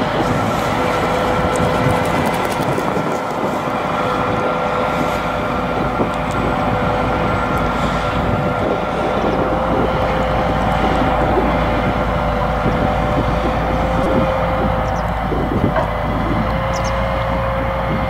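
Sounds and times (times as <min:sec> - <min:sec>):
harvester machine drone: 0:00.0 - 0:18.0.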